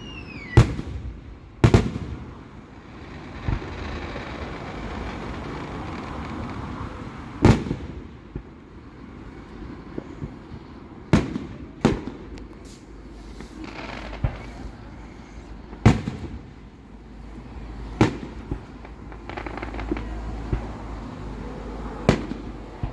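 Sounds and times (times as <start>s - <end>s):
crackling hiss: 0.0s - 22.9s
fireworks bangs: 0.0s - 22.9s
faint firework pops: 0.3s - 2.3s, 3.1s - 8.6s, 9.3s - 21.3s, 22.0s - 22.9s.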